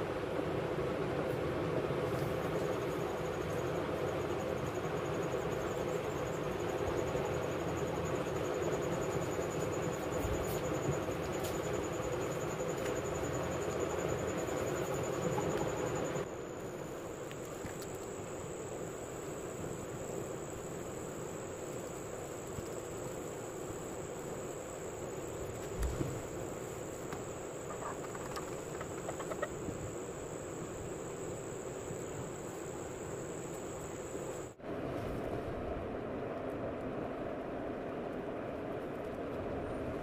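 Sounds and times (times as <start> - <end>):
background hiss and hum: 0.0 - 40.0.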